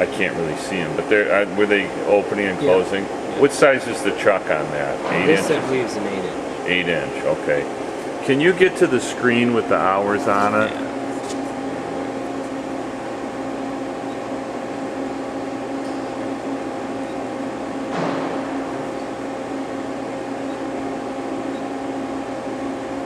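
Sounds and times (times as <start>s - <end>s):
lathe humming idle: 0.0s - 23.0s.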